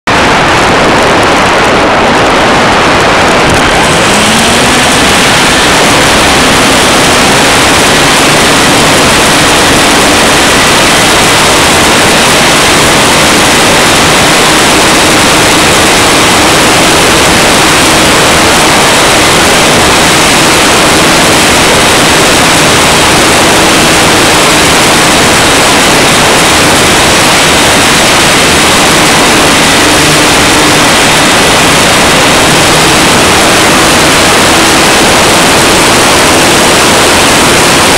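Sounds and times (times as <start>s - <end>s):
propeller motor whine: 0.0s - 37.9s
wind rushing over camera: 0.0s - 37.9s.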